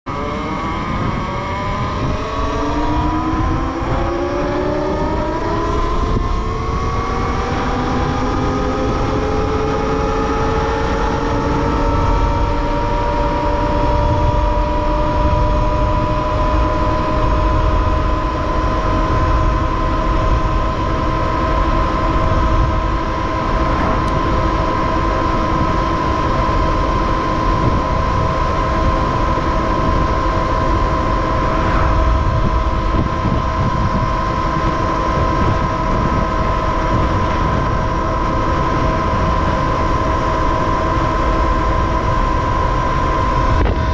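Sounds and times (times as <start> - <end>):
electric motorbike motor whine: 0.1 - 43.9
low rushing noise: 0.1 - 43.9.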